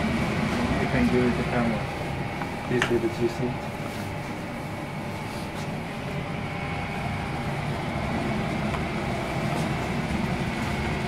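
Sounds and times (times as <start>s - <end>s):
ventilation hum and rushing air: 0.0s - 11.0s.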